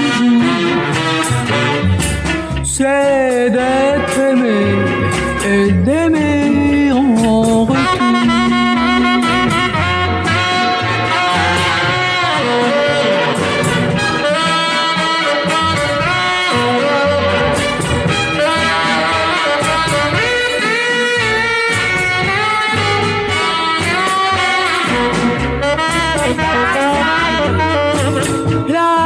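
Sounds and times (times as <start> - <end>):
band with brass and saxophones: 0.0 - 29.0.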